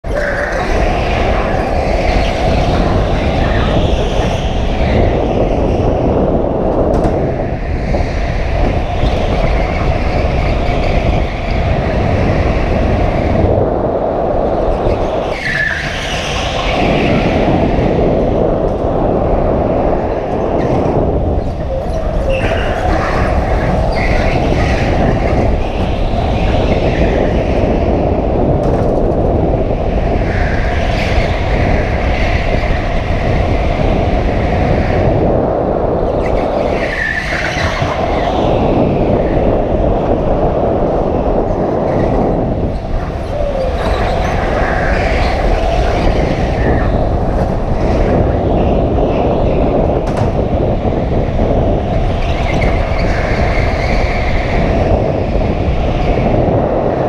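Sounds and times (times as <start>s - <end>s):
go-kart motor rumble: 0.0s - 13.6s, 14.4s - 35.3s, 36.0s - 57.0s.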